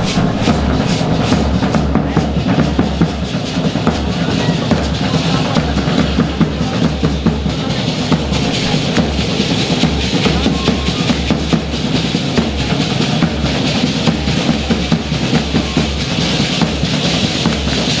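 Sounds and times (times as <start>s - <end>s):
bass drum beat: 0.0s - 18.0s.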